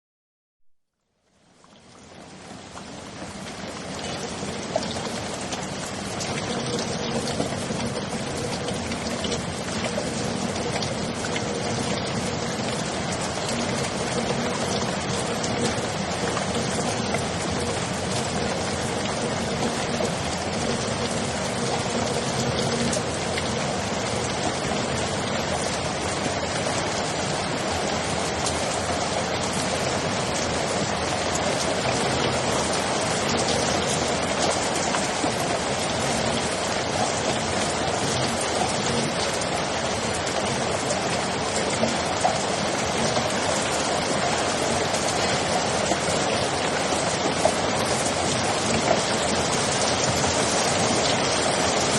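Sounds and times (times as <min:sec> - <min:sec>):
steady rain falling: 0:01.0 - 0:51.9.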